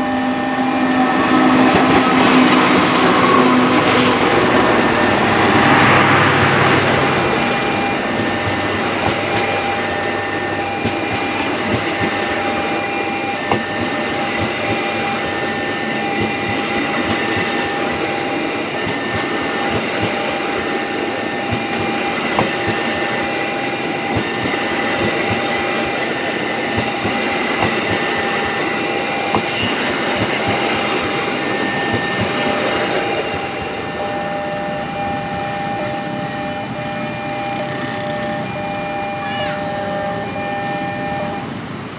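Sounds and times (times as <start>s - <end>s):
two-note electronic tone: 0.0s - 41.6s
train rumbling past: 0.0s - 41.9s
wheels clicking over rail joints: 0.0s - 41.9s.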